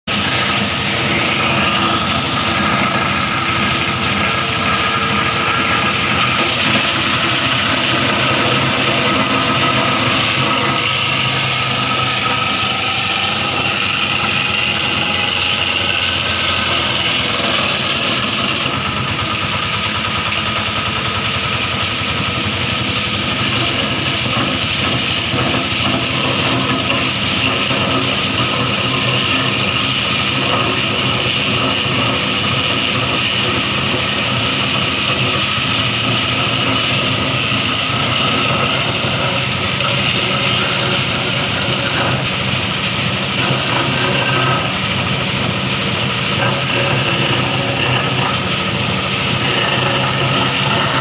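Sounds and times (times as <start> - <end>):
diesel engine running: 0.0 - 51.0
high machine whine: 0.0 - 51.0.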